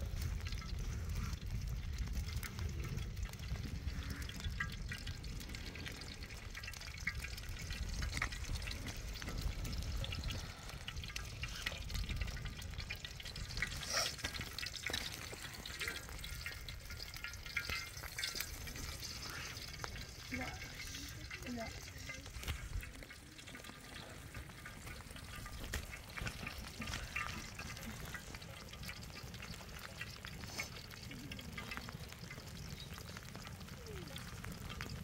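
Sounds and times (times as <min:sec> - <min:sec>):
wind buffeting microphone: 0:00.0 - 0:28.2
wood fire crackling: 0:00.0 - 0:35.0.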